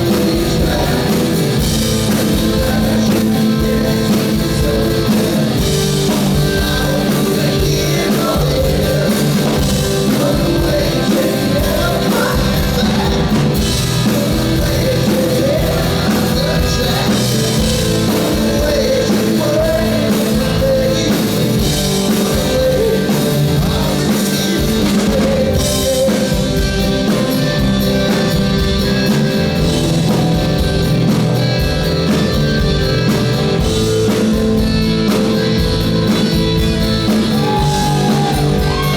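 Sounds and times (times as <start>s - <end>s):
bass guitar: 0.0s - 38.9s
drum kit beat: 0.0s - 38.9s
electric guitars: 0.0s - 38.9s.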